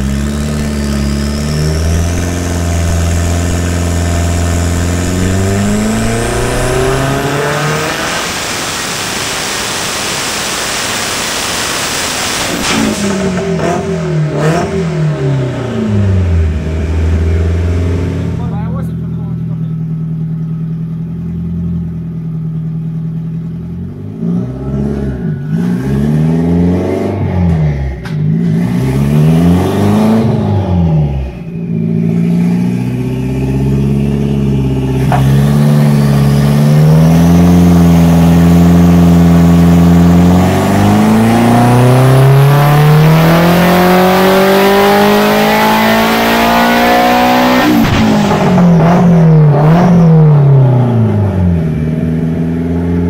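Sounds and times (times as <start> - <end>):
car engine revving: 0.0 - 53.0
high turbo whine: 0.0 - 53.0.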